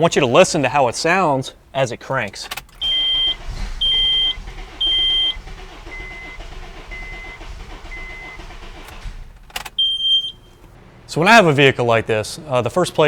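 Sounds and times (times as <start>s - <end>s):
dashboard warning chime beeping: 0.0s - 10.8s
engine cranking on starter: 0.0s - 10.8s.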